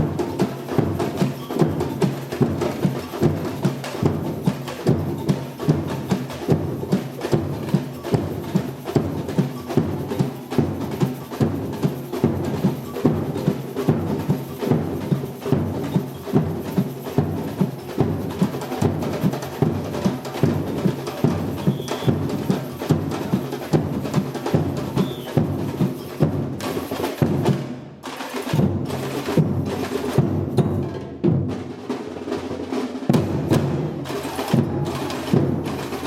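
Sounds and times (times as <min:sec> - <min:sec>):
samba percussion drums: 0:00.0 - 0:36.0.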